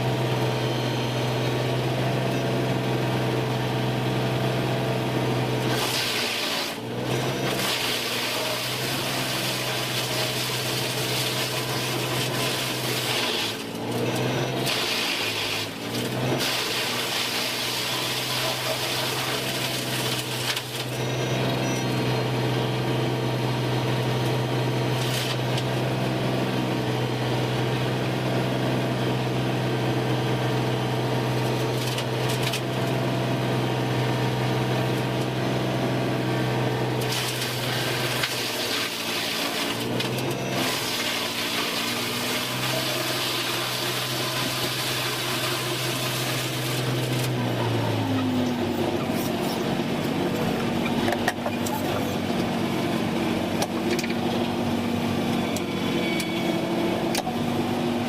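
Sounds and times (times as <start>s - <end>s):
woodworking machinery running: 0.0s - 58.0s.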